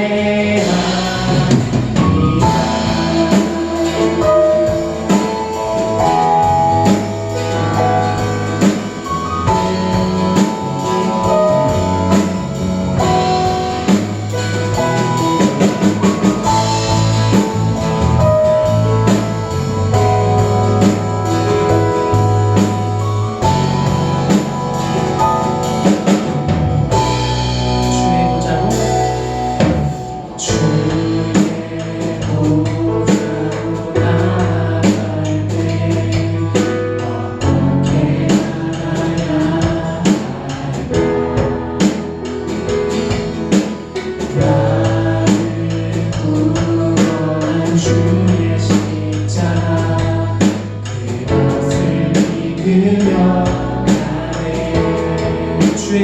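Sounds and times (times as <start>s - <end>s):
instrumental band playing: 0.0s - 56.0s.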